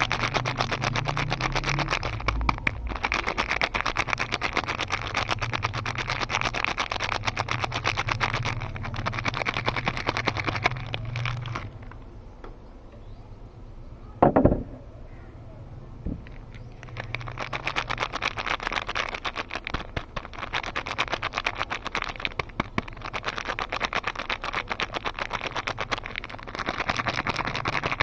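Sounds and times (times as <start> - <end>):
wrapper crackling: 0.0 - 12.0, 16.2 - 28.0
wrapper rustle: 0.0 - 12.0, 16.2 - 28.0.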